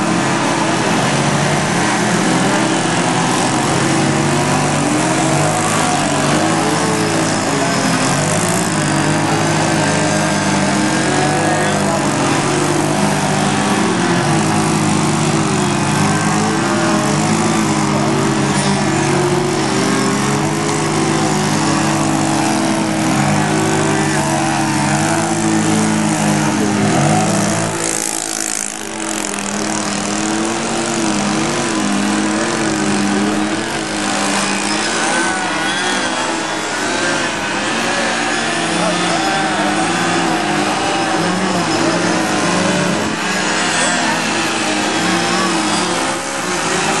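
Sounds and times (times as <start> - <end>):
model airplane engines buzzing: 0.0 - 47.0.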